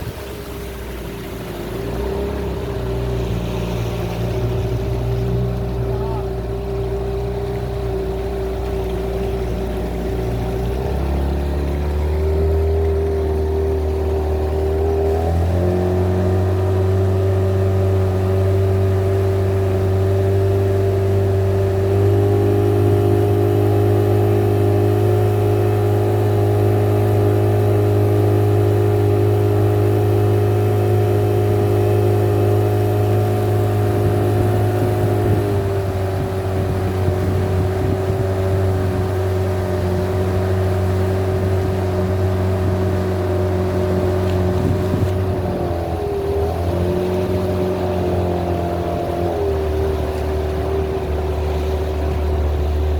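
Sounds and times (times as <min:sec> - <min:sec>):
boat motor running: 0:00.0 - 0:52.9.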